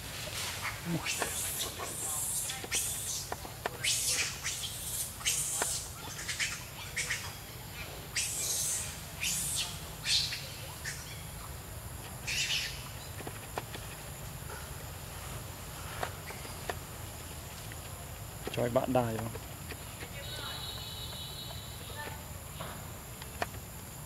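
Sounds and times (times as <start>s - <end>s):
birds chirping: 0.6s - 24.0s.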